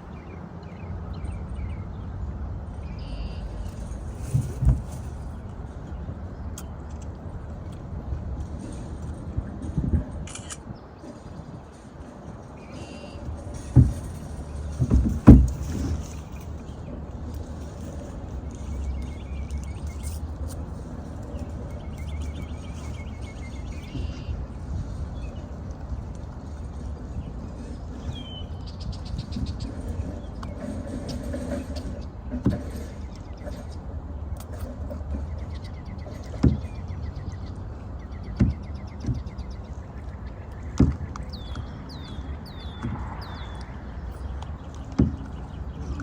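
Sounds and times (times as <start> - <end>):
wind rumble on microphone: 0.0 - 46.0.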